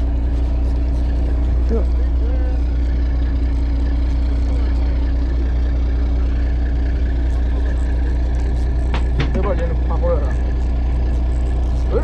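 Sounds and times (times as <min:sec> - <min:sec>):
boat engine low drone: 0:00.0 - 0:12.0.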